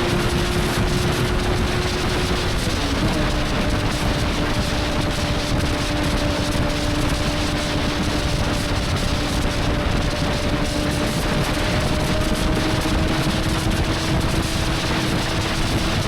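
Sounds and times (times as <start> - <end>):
motorcycle engine cruising: 0.0 - 16.0
wind noise: 0.0 - 16.0.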